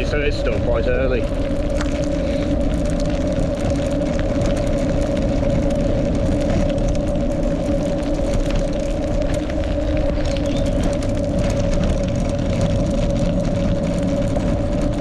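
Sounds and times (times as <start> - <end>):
bicycle rolling along a road: 0.0 - 15.0.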